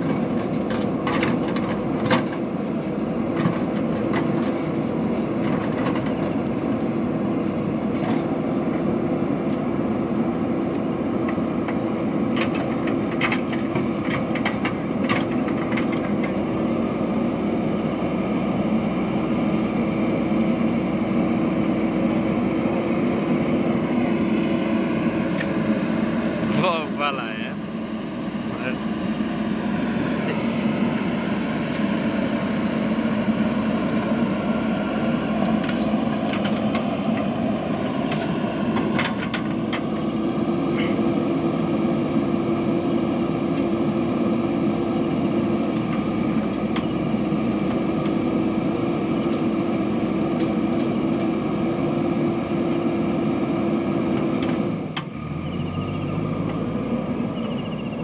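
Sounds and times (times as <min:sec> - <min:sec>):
diesel engine running hard: 0:00.0 - 0:58.0.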